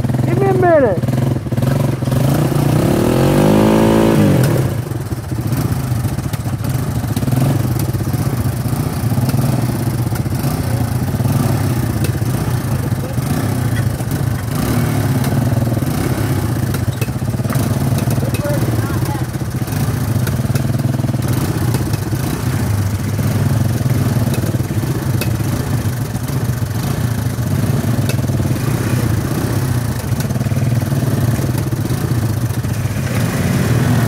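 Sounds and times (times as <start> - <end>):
engine revving: 0.0 - 34.0
small atv engines running: 0.0 - 34.0.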